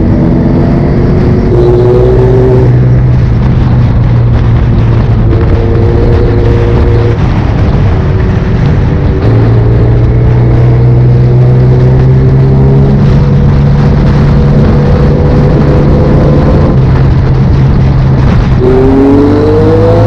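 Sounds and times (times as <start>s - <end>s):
loud rushing noise: 0.0s - 20.0s
motorcycle engine running: 0.0s - 20.0s.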